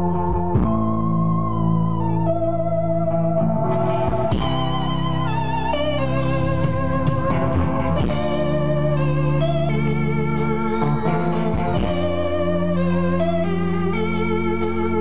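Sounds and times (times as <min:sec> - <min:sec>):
rock band with electric guitars: 0:00.0 - 0:15.0.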